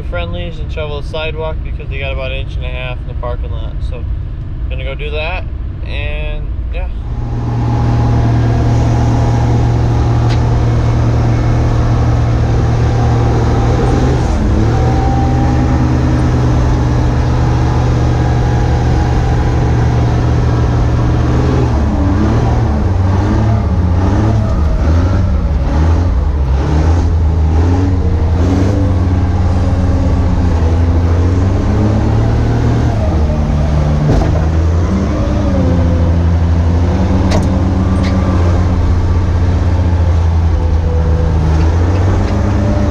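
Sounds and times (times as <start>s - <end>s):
vehicle engine revving: 5.8s - 42.9s.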